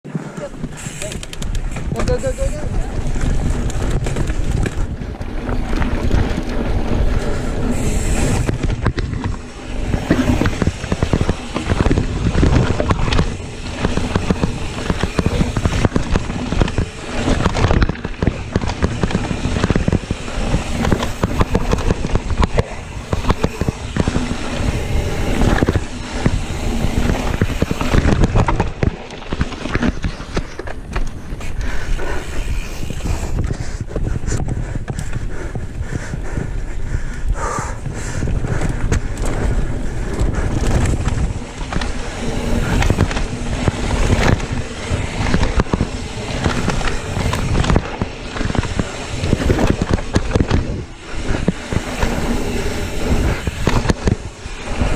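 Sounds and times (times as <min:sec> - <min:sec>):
bike clattering and rattling: 0:00.1 - 0:54.9
bike tyres rolling over rough ground: 0:00.1 - 0:54.9.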